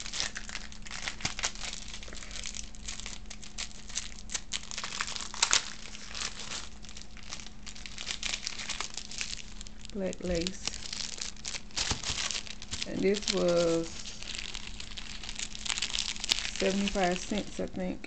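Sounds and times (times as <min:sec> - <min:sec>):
plastic packaging crinkling: 0:00.0 - 0:17.7.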